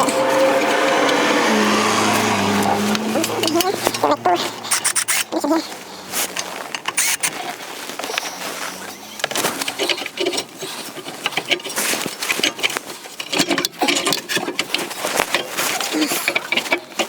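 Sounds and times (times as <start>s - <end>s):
clicks and knocks of hands working: 0.0s - 17.0s
plastic scraping: 0.0s - 17.0s.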